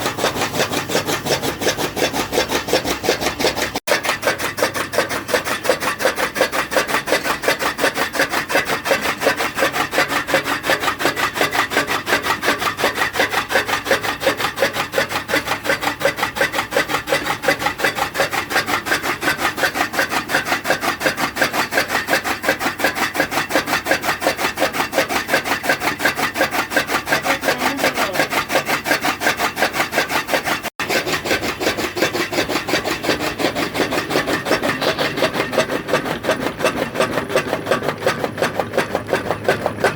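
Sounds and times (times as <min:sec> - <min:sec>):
fodder cutter chopping: 0:00.0 - 0:39.9.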